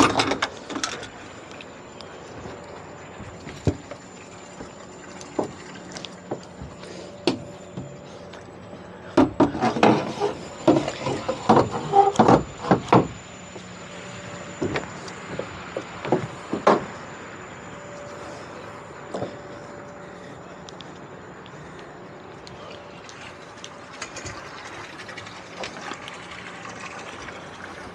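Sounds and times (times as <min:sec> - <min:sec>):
faint hum: 0:00.0 - 0:27.9.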